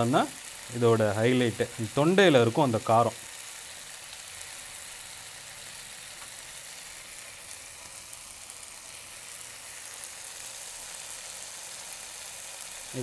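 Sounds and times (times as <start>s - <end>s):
curry sizzling in a pan: 0.0s - 13.0s.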